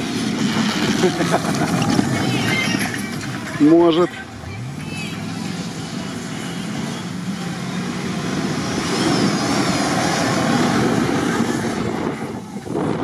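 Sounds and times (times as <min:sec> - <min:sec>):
tyres spinning on dirt: 0:00.0 - 0:13.0.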